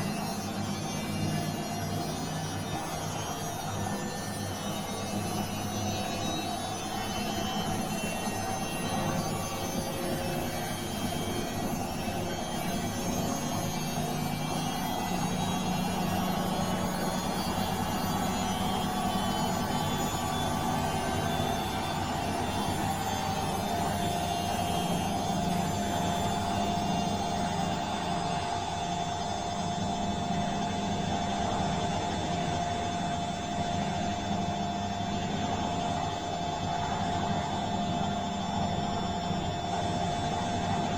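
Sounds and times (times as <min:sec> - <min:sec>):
constant whine: 0:00.0 - 0:40.9.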